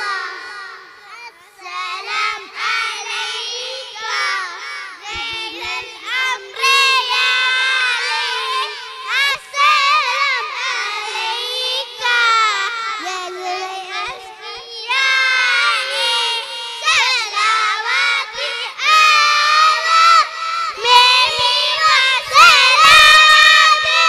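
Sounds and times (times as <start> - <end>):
children singing into microphones: 0.0 - 24.0.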